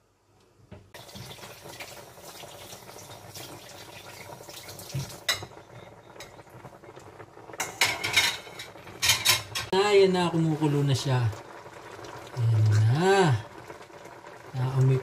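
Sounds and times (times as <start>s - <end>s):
sauce bubbling in a pan: 0.9s - 15.0s.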